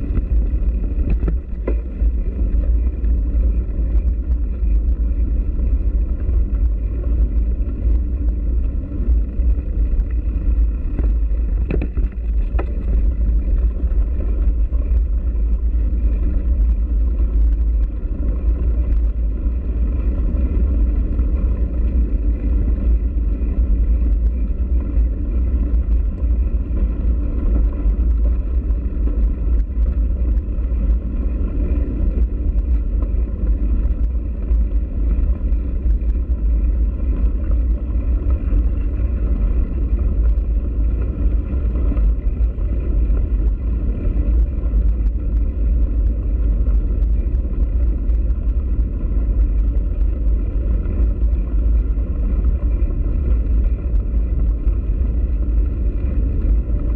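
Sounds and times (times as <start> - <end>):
bicycle tyres rolling on gravel: 0.0 - 56.9
wind buffeting microphone: 0.0 - 56.9.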